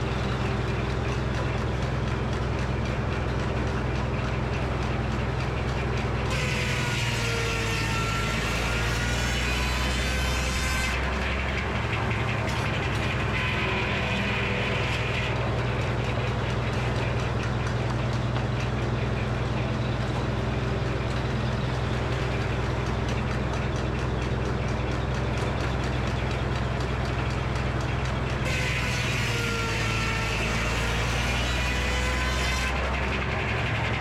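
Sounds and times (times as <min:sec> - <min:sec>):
sawmill machinery rattling: 0:00.0 - 0:34.0.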